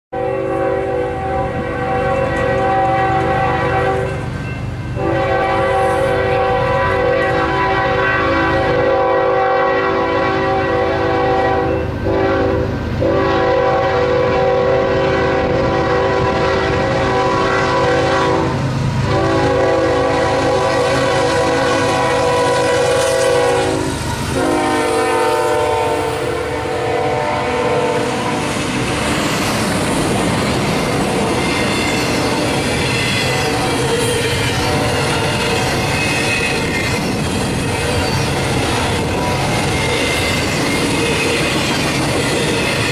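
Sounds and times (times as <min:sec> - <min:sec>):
locomotive air horn blasts: 0:00.1 - 0:04.3, 0:04.9 - 0:28.7, 0:31.0 - 0:36.7, 0:37.8 - 0:40.2
train rumbling: 0:00.1 - 0:42.9.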